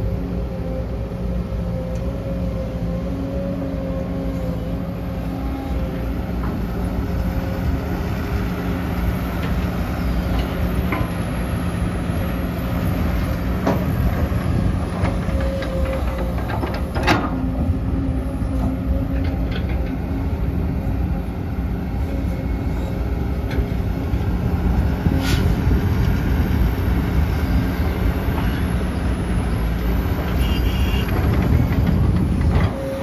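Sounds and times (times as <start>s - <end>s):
excavator diesel engine: 0.0s - 33.0s.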